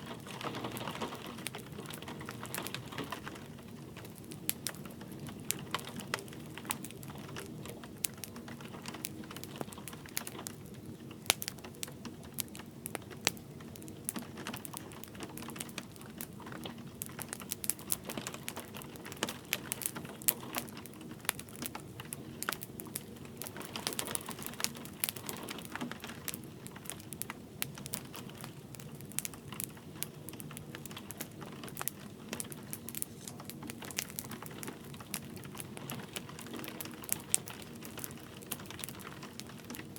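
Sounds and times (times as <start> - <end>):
light rain hissing: 0.0 - 39.9
wood fire crackling and popping: 0.0 - 39.9.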